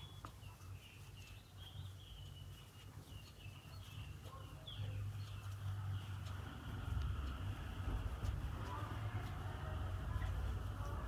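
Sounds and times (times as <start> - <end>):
faint birds chirping: 0.0 - 11.0
low steady hum: 0.0 - 11.0.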